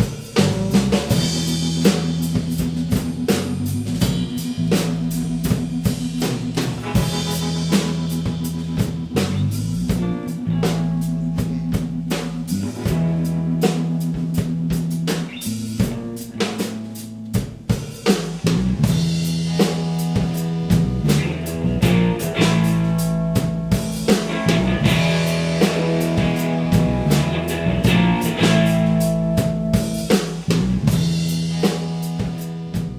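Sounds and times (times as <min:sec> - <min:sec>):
drum kit beat: 0:00.0 - 0:32.9
held bass notes: 0:00.0 - 0:32.9.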